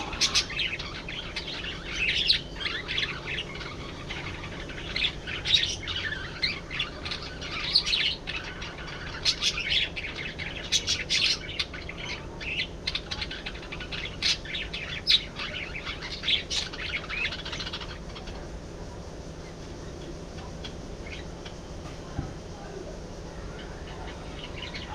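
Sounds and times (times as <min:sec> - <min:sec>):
budgerigars chattering and chirping: 0:00.0 - 0:24.9
low steady hum: 0:00.0 - 0:24.9.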